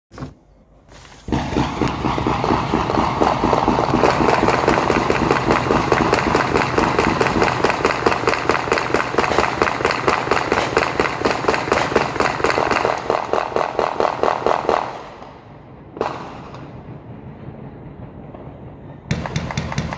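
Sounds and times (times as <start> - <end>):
firecrackers popping: 0.9 - 19.9.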